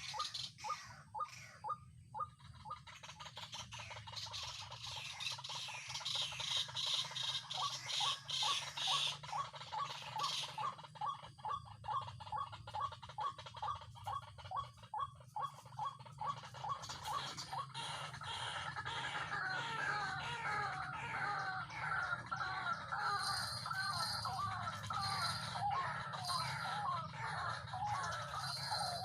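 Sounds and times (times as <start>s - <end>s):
waterhen calling: 0.0s - 29.0s.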